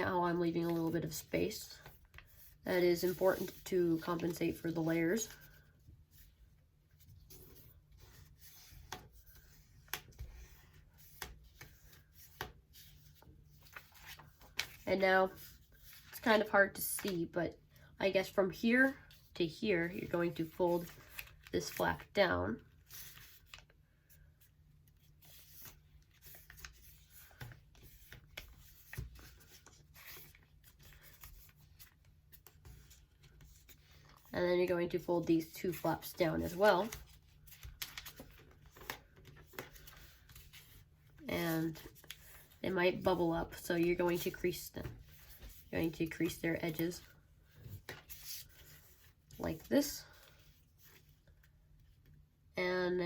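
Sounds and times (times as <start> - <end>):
paper being folded and creased: 0.0 - 17.3, 20.0 - 52.2.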